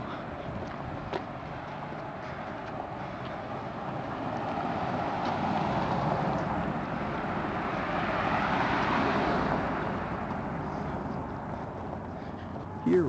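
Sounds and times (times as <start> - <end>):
car passing on road: 0.0 - 13.0.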